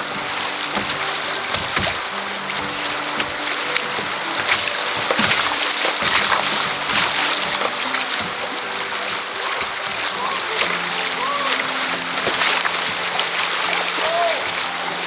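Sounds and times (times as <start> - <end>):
background music: 0.0 - 15.0
creek water rushing: 0.0 - 15.0
paddle strokes splashing: 0.0 - 15.0.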